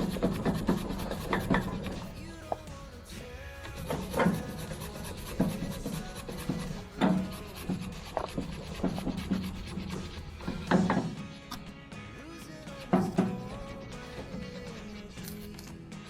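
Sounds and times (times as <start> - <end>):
wire brush scraping: 0.0 - 11.7, 12.3 - 15.9.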